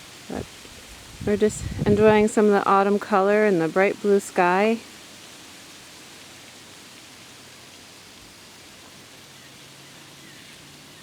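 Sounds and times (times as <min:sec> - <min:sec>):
woodland ambience hiss: 0:00.0 - 0:11.0.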